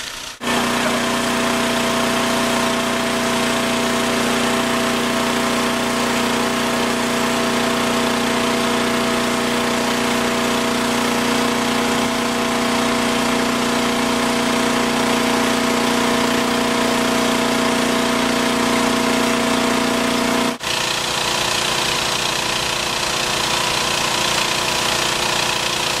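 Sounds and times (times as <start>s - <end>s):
machinery engine whining: 0.0s - 26.0s
steady engine noise: 0.0s - 26.0s.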